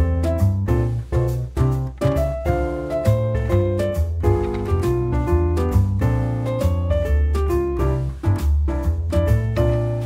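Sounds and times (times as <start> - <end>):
instrumental music with bass and beat: 0.0 - 10.0.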